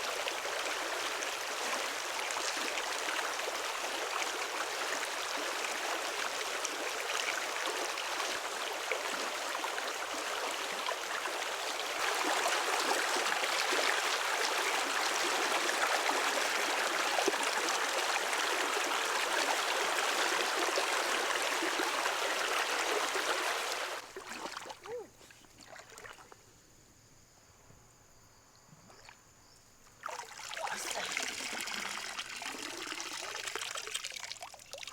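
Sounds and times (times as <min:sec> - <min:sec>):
running water rushing: 0:00.0 - 0:26.1, 0:30.0 - 0:34.9.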